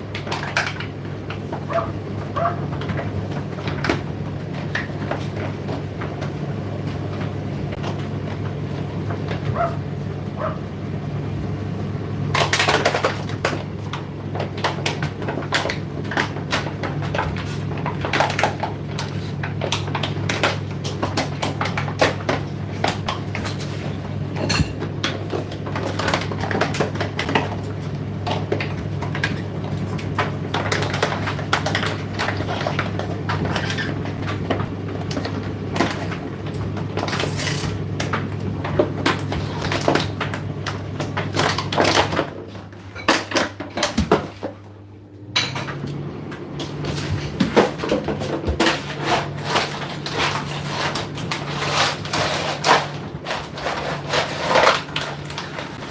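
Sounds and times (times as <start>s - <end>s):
tumble dryer motor hum: 0.0s - 55.9s.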